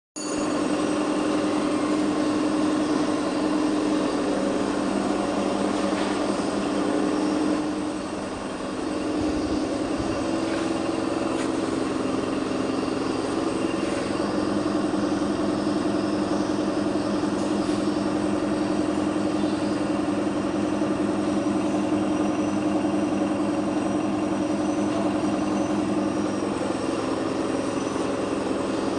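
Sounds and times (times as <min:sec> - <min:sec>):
motorcycle engine running: 0:00.3 - 0:28.9.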